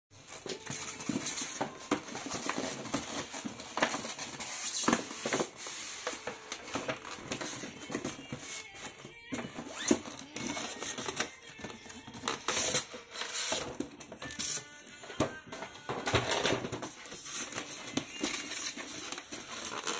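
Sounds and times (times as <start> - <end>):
cardboard boxes rustling and scraping: 0.2 - 13.9, 16.2 - 19.9.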